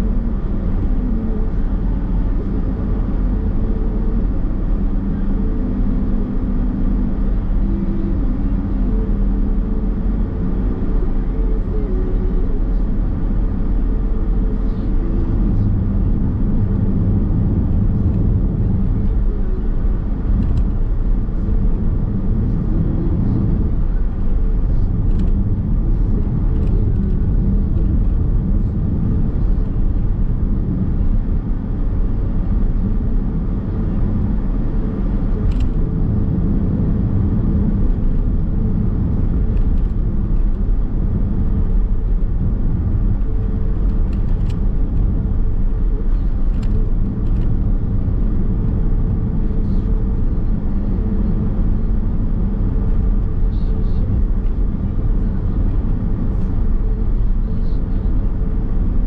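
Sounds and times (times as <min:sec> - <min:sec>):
low drive hum: 0:00.0 - 0:59.0
road and tyre rumble: 0:00.0 - 0:59.0.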